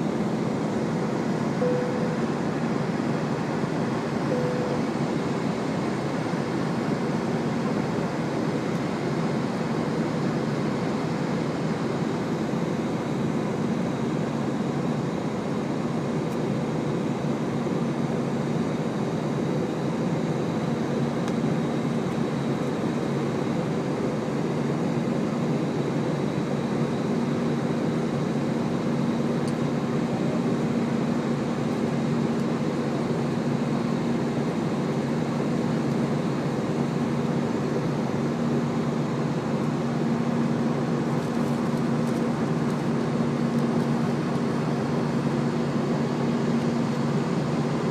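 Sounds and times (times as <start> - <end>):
jet engines roaring in cabin: 0.0 - 47.9.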